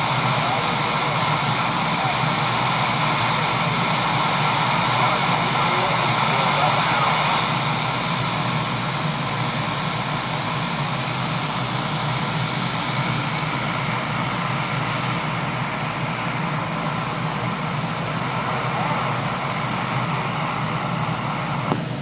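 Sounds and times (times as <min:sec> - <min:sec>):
radio static hiss: 0:00.0 - 0:21.7.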